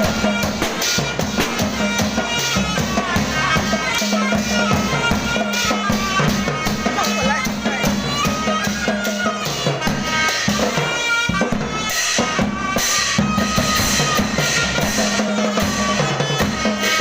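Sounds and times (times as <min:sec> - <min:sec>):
drums beating quick rhythm: 0:00.0 - 0:17.0
reedy wind instrument melody: 0:00.0 - 0:17.0.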